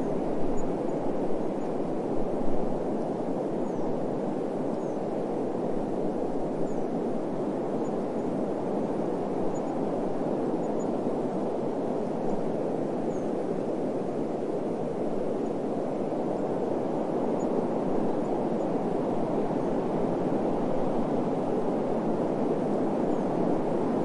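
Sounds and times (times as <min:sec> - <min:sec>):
low rushing wind: 0:00.0 - 0:24.0.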